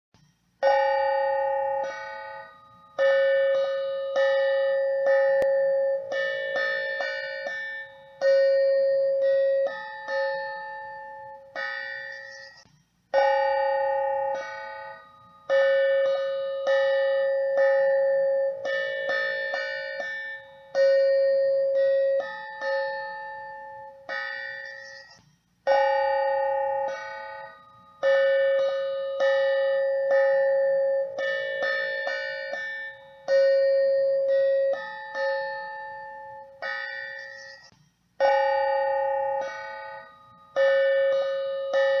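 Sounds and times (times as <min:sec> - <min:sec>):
chiming bell-like melody: 0:00.2 - 0:42.0.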